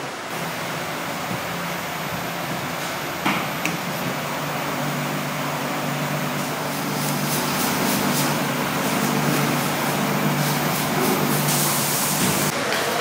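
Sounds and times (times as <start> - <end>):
stand mixer motor hum: 0.3 - 12.5.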